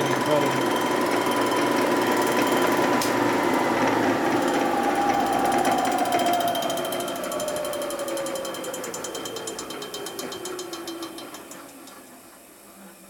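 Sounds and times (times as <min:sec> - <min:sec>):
machine tone: 0:00.0 - 0:13.0.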